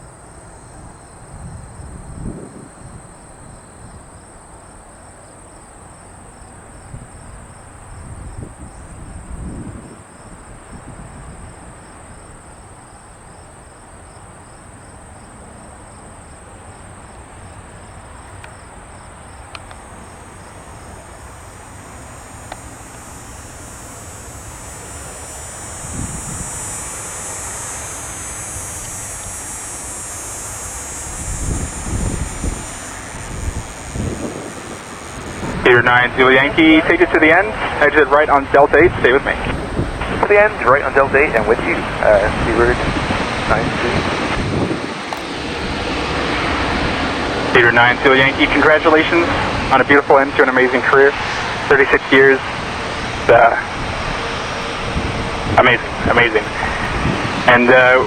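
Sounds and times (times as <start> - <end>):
crickets chirping: 0.0 - 58.0
jet airliner noise: 0.0 - 58.0
wind gusts on microphone: 0.7 - 4.8, 6.7 - 12.5, 19.3 - 58.0.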